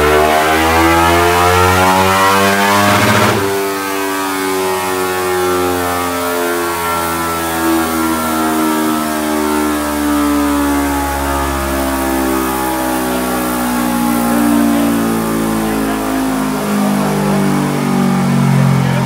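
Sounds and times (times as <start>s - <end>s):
motorcycle engine under load: 0.0s - 19.0s.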